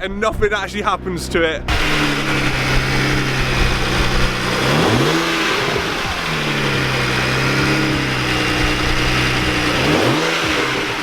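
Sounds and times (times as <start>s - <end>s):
car engine idling and revving: 0.4s - 11.0s.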